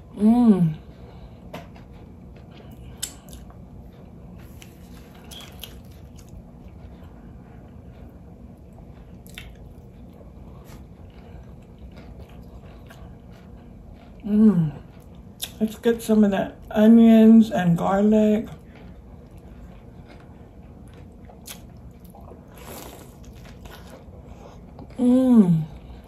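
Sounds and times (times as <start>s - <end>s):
chewing crunchy fried fish: 1.4s - 16.7s, 17.7s - 25.0s.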